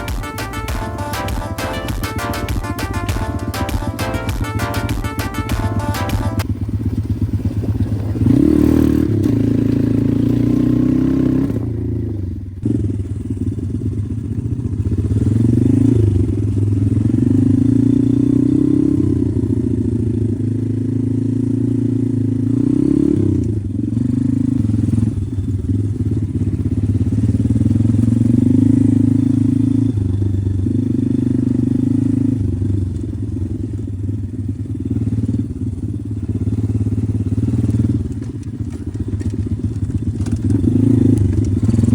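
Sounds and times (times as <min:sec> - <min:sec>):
motorbike engine revving: 0:05.8 - 0:32.7, 0:34.9 - 0:41.9.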